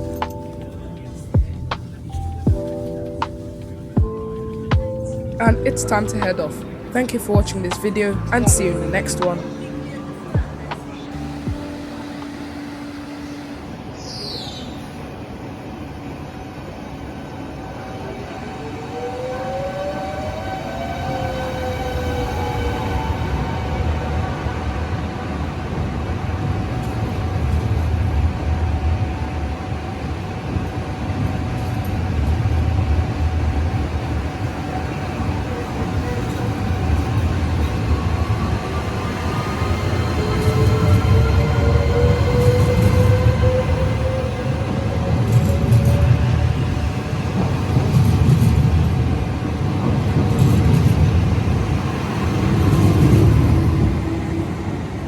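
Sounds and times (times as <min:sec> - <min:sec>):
electric train running: 0:00.0 - 0:55.0.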